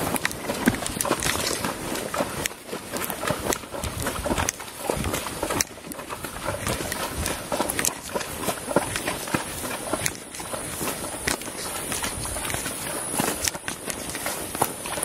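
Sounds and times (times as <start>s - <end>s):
horse hooves thudding on grass: 0.0s - 15.0s.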